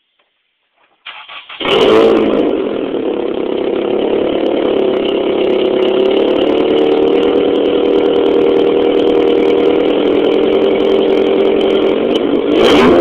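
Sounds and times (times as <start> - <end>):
car engine idling: 0.8 - 12.6.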